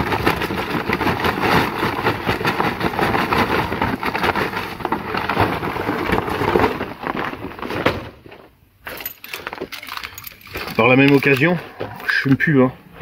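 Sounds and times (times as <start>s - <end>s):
corn cobs clattering into metal: 0.0s - 12.2s.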